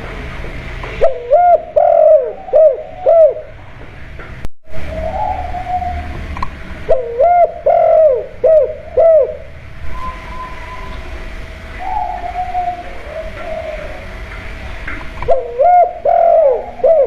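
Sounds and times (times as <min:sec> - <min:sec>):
dove cooing: 0:01.0 - 0:03.6, 0:04.8 - 0:17.0.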